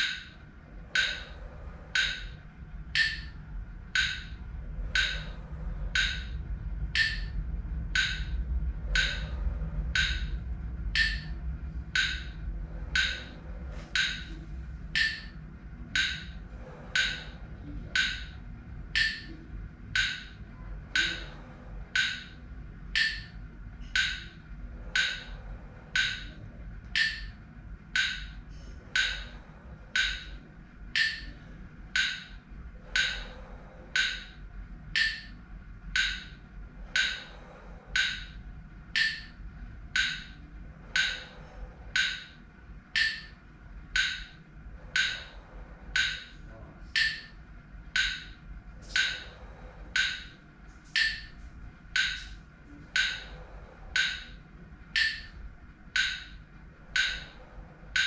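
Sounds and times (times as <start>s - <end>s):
sharp rhythmic breathing: 0.0s - 58.0s.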